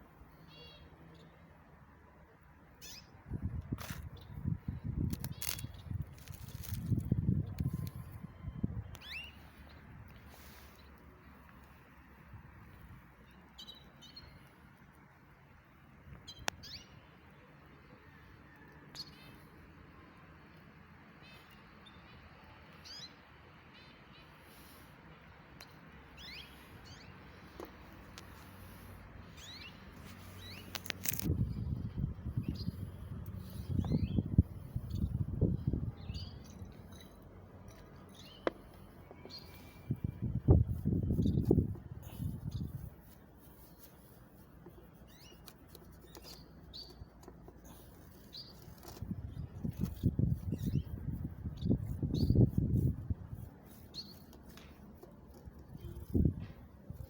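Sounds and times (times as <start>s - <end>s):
small birds chirping: 0.2s - 1.6s, 2.7s - 15.1s, 16.0s - 57.0s.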